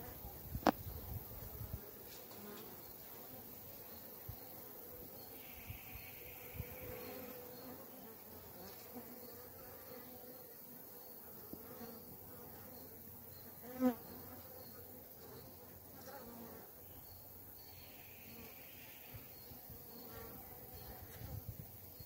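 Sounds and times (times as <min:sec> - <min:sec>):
bee buzzing close by: 0:00.0 - 0:22.0
honeybees buzzing: 0:00.0 - 0:22.0.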